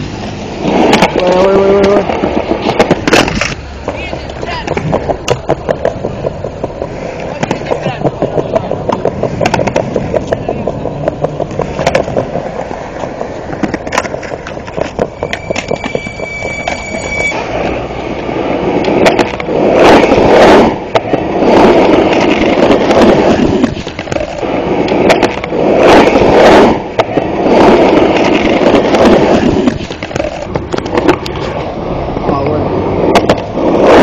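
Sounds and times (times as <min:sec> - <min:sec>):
skateboard clacks: 0:00.0 - 0:34.0
skateboard wheels rolling on concrete: 0:00.0 - 0:34.0.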